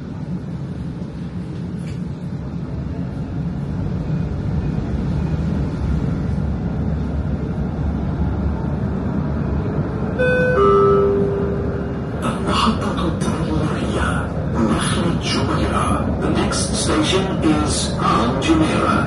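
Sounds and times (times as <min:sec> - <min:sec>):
light-rail car rumbling: 0:00.0 - 0:19.0.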